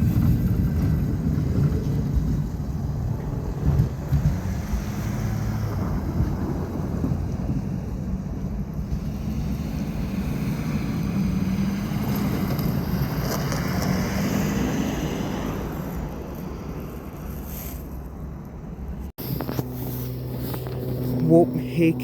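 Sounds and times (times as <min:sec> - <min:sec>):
wind noise on microphone: 0:00.0 - 0:18.4
low engine rumble: 0:00.0 - 0:22.0.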